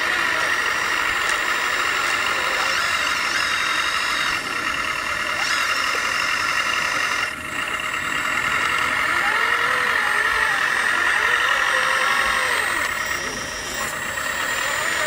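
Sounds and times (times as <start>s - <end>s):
rc vehicles mechanical whine: 0.0s - 15.0s.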